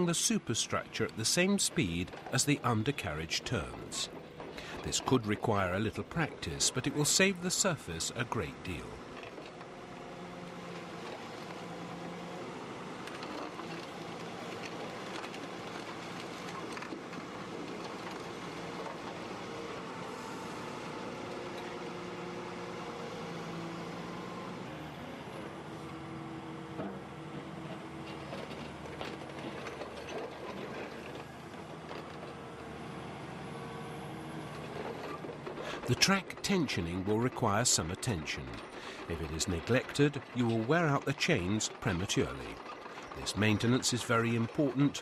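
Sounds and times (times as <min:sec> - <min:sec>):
excavator diesel engine hum: 0:00.0 - 0:45.0
track and hydraulic clatter: 0:00.0 - 0:45.0.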